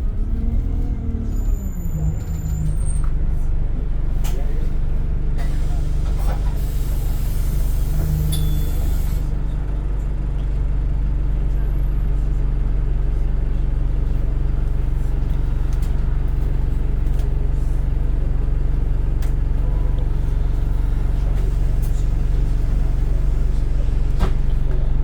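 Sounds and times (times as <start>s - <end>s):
bus engine humming: 0.0s - 25.0s.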